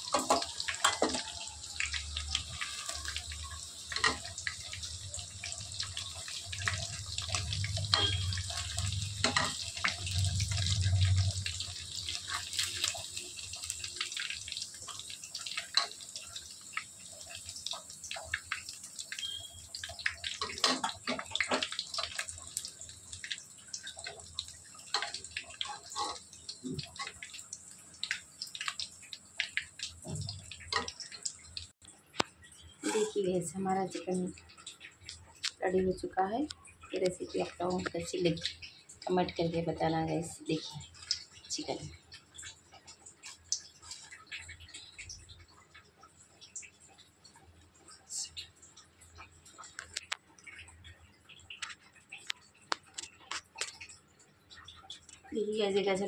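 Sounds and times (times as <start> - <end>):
hot oil sizzling and crackling: 0.0 - 56.0.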